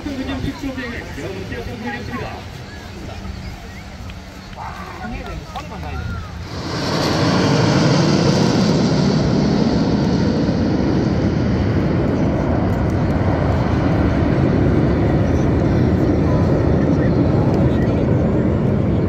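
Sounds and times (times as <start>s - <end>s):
jet aircraft roar: 0.0s - 19.0s.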